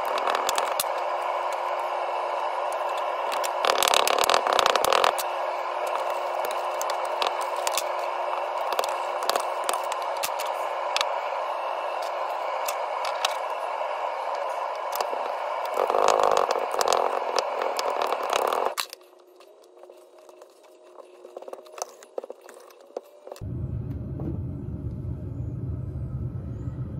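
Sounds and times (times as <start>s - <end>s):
whirring hum: 0.0s - 26.9s.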